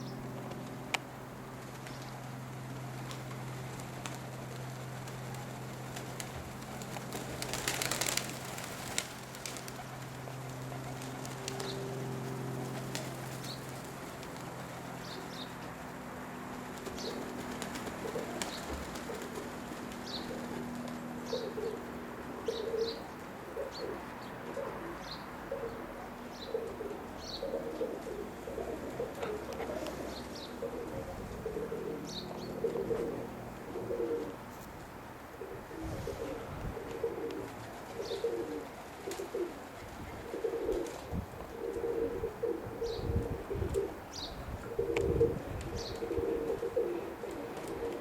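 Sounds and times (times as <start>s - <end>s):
pigeons cooing: 1.7s - 15.5s, 16.8s - 48.0s.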